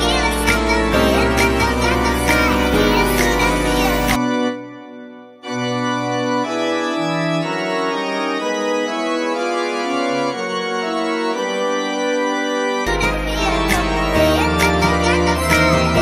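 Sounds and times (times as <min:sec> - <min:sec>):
slow organ music: 0:00.0 - 0:16.0.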